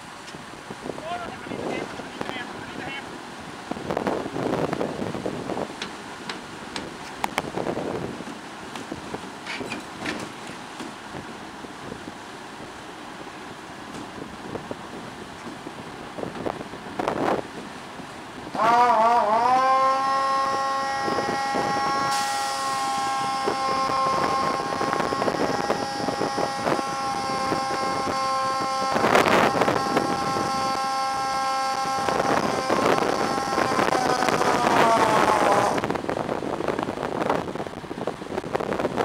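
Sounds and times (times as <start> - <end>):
pump primer whining: 0.0 - 37.4.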